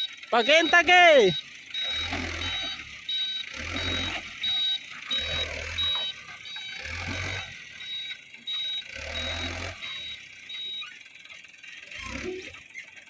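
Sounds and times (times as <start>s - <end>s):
truck reversing alarm beeping: 0.0s - 12.9s.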